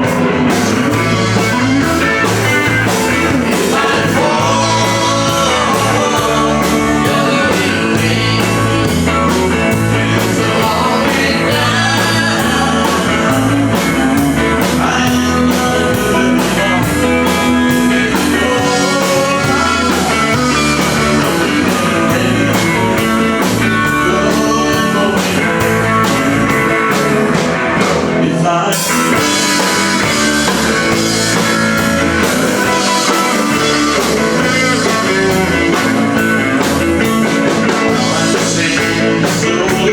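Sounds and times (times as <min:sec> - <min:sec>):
drum beat: 0:00.0 - 0:23.8, 0:28.9 - 0:38.6
bass guitar: 0:00.0 - 0:39.9
electric guitar: 0:00.0 - 0:39.9.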